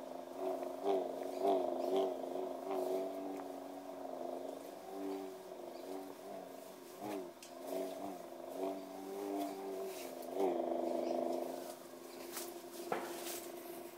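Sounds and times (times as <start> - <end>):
lightsaber hum bending in pitch: 0.0 - 13.9.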